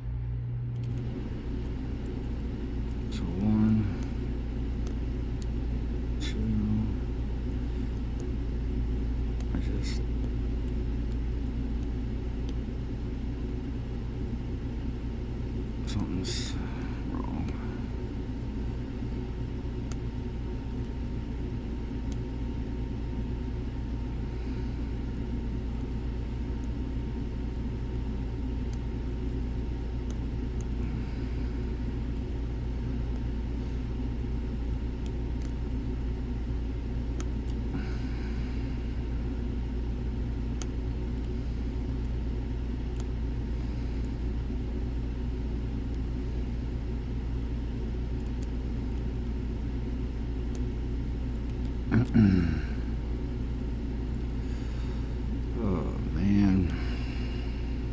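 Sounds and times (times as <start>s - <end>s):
steady low rumble: 0.0s - 57.9s.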